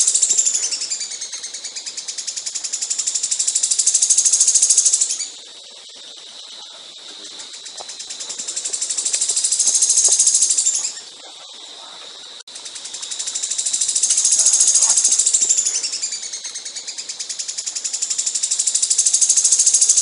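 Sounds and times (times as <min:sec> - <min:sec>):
songbird high-pitched trill: 0:00.0 - 0:05.4, 0:06.4 - 0:11.2, 0:12.7 - 0:20.0.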